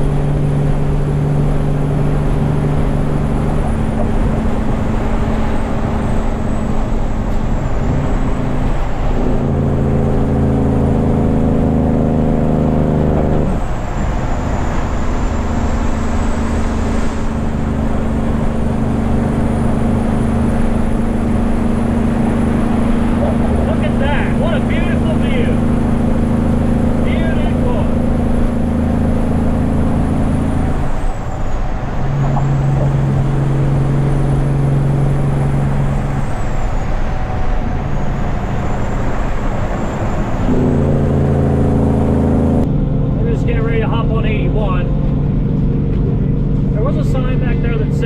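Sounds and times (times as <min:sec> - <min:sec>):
truck diesel engine running: 0:00.0 - 0:48.0
tyre and road noise: 0:00.0 - 0:48.0.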